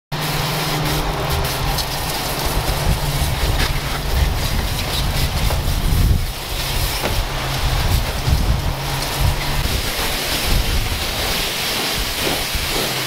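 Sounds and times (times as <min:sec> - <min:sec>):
pressure washer motor hum: 0:00.1 - 0:13.0
spray jet hissing: 0:00.1 - 0:13.0.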